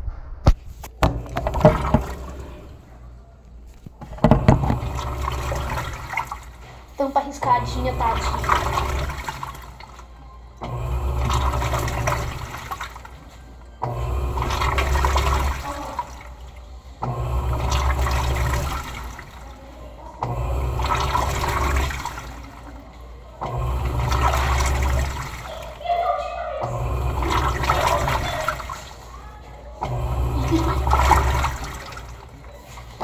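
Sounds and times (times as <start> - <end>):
washing machine motor humming: 0.4 - 33.0
water sloshing: 0.5 - 33.0.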